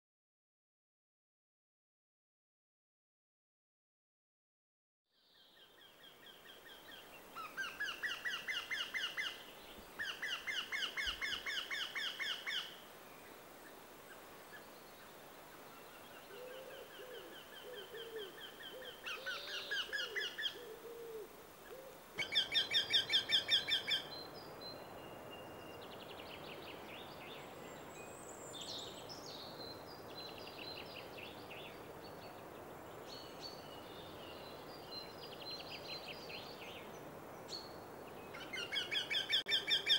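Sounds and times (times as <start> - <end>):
faint birdsong: 5.1 - 39.9.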